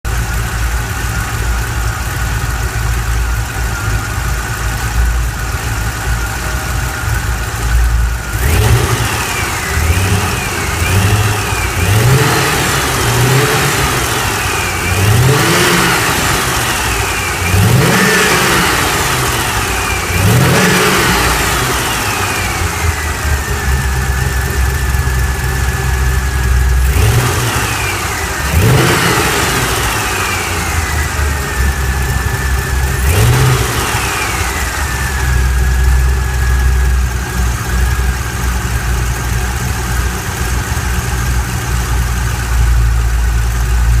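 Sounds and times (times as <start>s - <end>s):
engine idling and revving: 0.0s - 44.0s
high engine whine: 0.1s - 44.0s.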